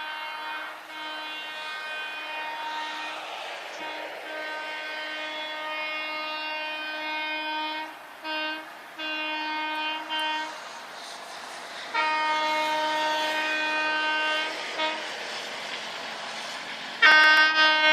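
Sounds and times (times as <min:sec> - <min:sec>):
train horn blasts: 0:00.0 - 0:10.8, 0:11.9 - 0:15.2, 0:17.0 - 0:17.9
train rumble and hiss: 0:00.0 - 0:17.9.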